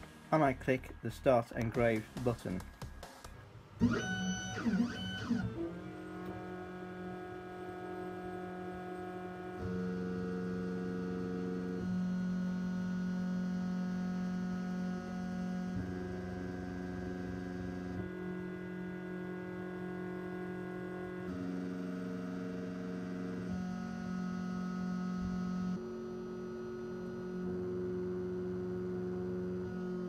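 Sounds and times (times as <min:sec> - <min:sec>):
laser engraver motors whining: 0:03.7 - 0:30.0.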